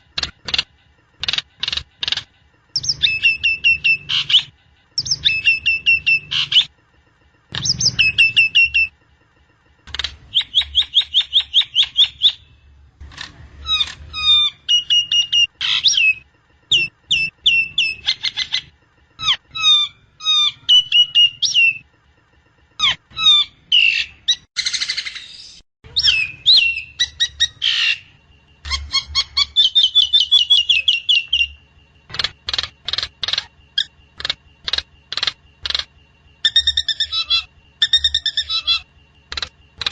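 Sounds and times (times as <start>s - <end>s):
myna chirping: 0.0s - 6.8s, 7.4s - 9.0s, 9.8s - 22.0s, 22.7s - 39.9s.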